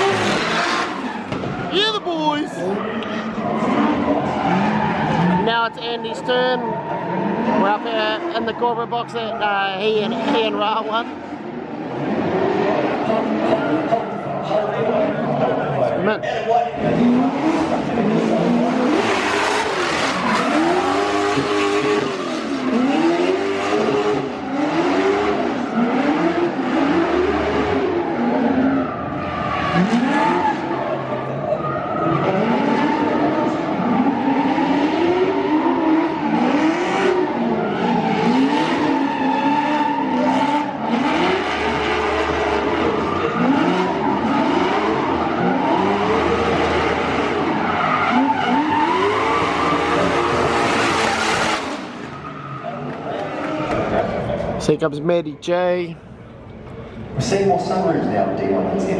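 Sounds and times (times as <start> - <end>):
car engine revving: 0.0 - 54.8
tyres skidding and squealing: 0.0 - 58.9.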